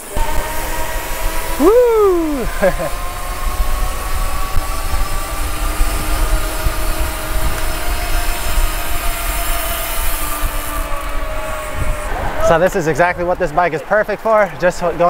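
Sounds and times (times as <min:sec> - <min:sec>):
droning hum: 0:00.0 - 0:12.7
wind buffeting microphone: 0:00.0 - 0:15.0.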